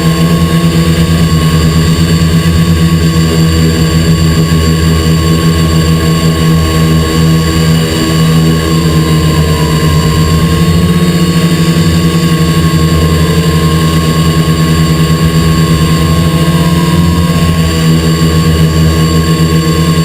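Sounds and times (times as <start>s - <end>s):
drone motors humming: 0.0s - 20.0s.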